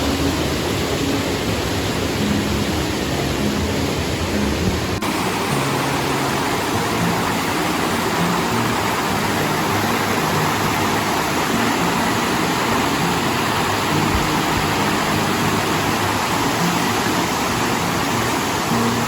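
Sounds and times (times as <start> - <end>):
fast-flowing creek rushing: 0.0 - 19.0.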